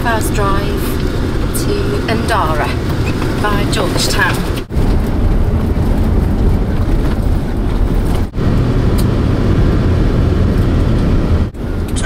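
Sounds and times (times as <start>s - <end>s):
engine and tyre rumble inside vehicle: 0.0s - 12.0s.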